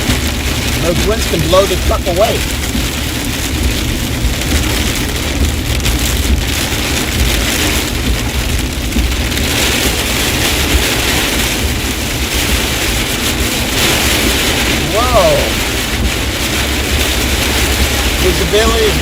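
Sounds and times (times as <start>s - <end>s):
heavy rain pelting a truck: 0.0s - 19.0s
truck rumble on wet road: 0.0s - 19.0s.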